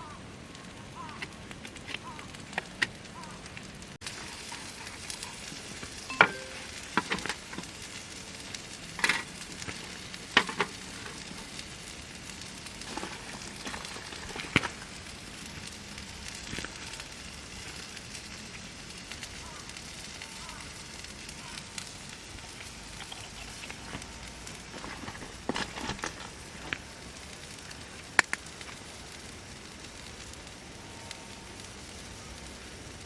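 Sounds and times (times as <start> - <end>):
food sizzling in a pan: 2.0 - 33.0.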